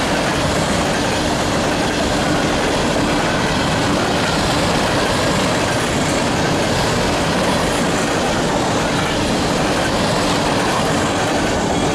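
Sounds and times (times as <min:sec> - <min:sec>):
train wheels on rails: 0:00.0 - 0:11.9.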